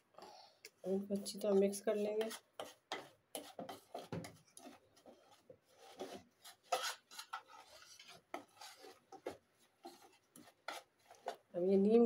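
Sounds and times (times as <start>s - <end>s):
metal spoon scraping plastic bowl: 1.1s - 11.6s.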